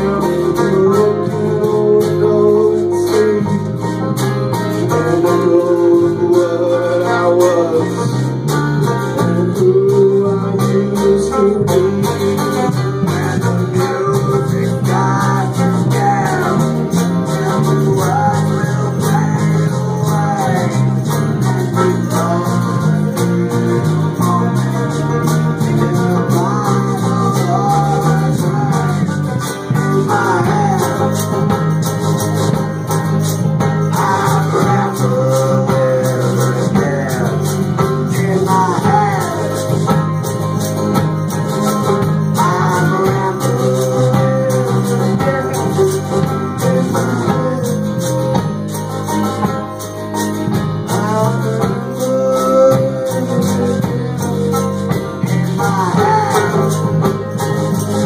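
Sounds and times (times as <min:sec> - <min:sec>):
drums: 0:00.0 - 0:58.0
man singing: 0:00.0 - 0:58.0
strummed guitars: 0:00.0 - 0:58.0.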